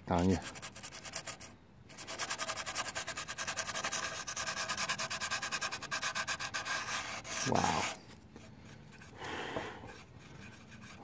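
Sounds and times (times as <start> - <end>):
sandpaper scratching on metal: 0.1 - 8.0, 9.9 - 11.0.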